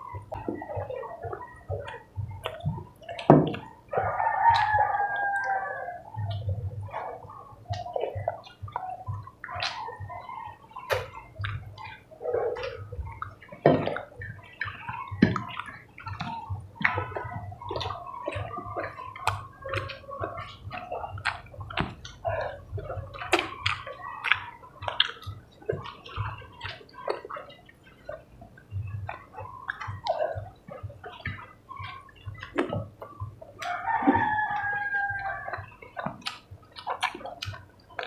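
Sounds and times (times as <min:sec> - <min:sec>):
wet chewing and lip-smacking: 0:00.0 - 0:38.0.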